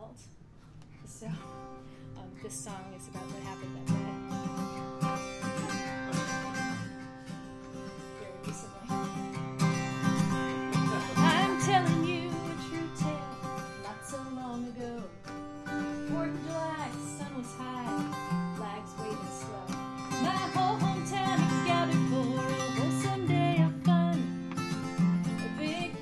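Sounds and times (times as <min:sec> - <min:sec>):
acoustic guitar strumming chords: 0:01.1 - 0:26.0.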